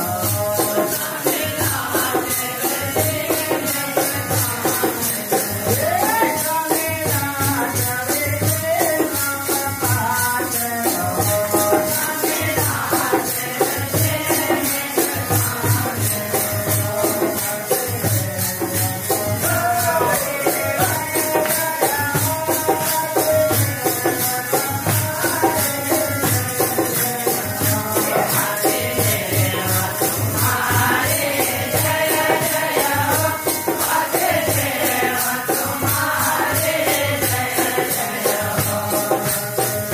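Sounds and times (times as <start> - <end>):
group singing: 0.0 - 39.9
jingling hand percussion: 0.0 - 39.9.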